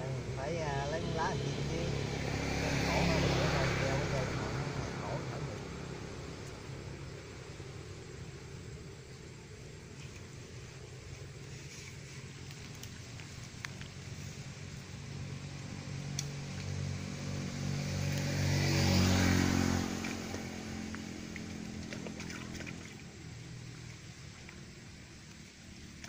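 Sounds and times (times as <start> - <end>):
motorcycle passing by: 0.0 - 26.0.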